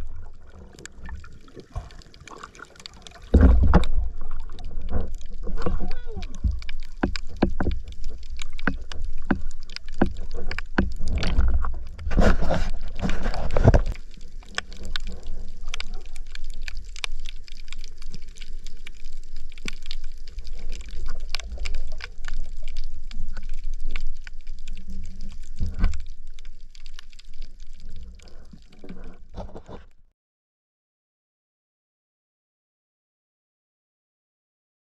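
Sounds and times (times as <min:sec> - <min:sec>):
low rumble of moving water: 0:00.0 - 0:30.0
water splashing and sloshing: 0:00.0 - 0:30.0
underwater clicks and crackles: 0:00.0 - 0:30.1.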